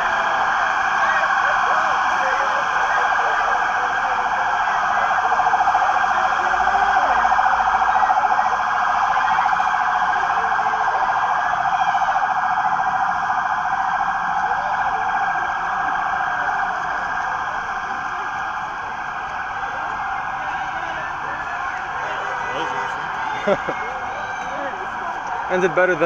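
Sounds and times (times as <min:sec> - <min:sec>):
police sirens pulsing: 0:00.0 - 0:26.0.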